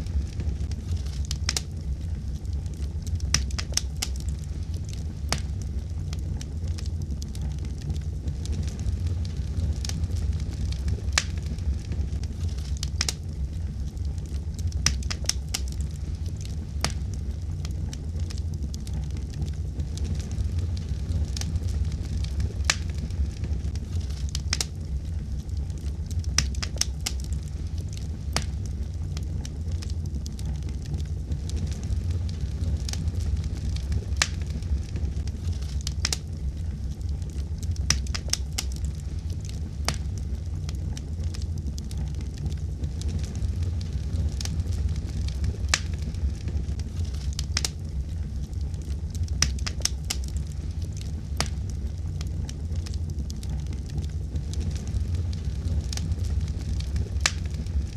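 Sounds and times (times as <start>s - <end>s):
fire crackles and pops: 0.0s - 57.9s
wood fire burning: 0.0s - 57.9s.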